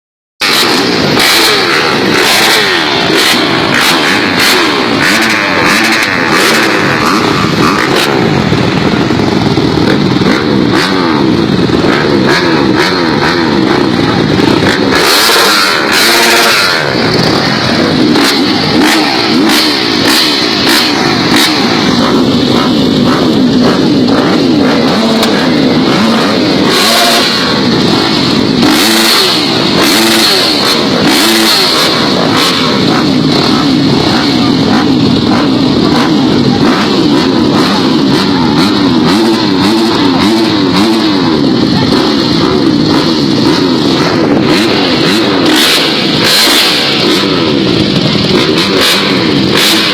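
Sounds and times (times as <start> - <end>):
dirt bike engines revving: 0.4 - 49.9.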